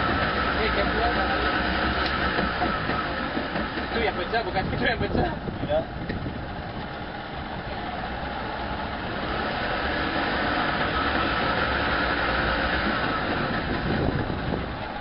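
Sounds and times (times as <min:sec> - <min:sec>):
steady motor noise: 0:00.0 - 0:15.0.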